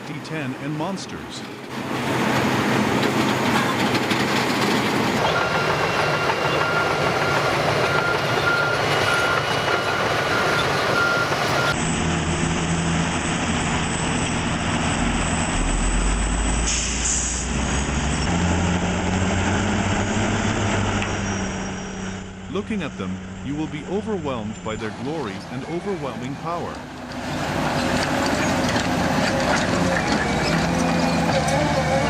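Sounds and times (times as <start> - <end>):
heavy machine diesel engines: 0.0 - 32.0
engine rising in pitch: 3.2 - 32.0.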